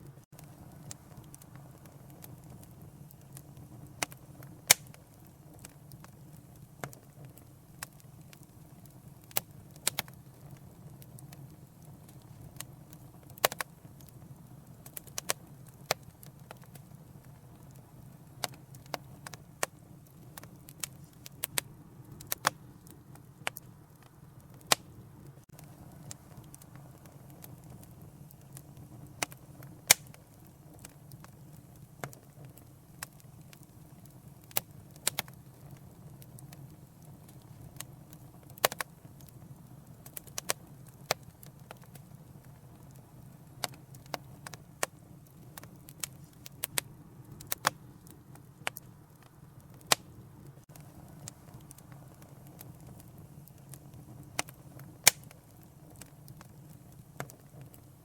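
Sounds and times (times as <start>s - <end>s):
fire crackling and popping: 0.0s - 58.0s
wood fire rumbling: 0.0s - 58.0s.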